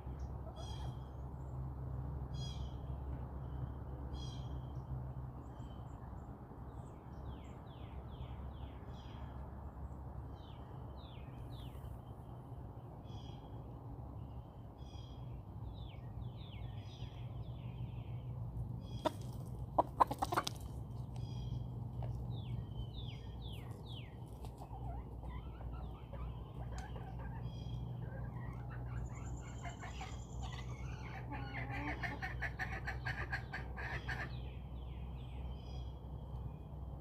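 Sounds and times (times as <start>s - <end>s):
low outdoor background hum: 0.0s - 37.0s
songbirds chirping: 0.0s - 37.0s.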